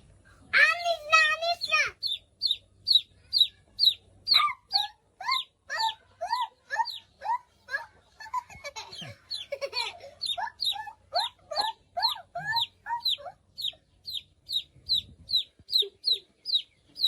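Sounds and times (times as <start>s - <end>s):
lower chick chirps: 0.9s - 7.6s, 8.3s - 17.0s
chicks peeping: 0.9s - 17.0s.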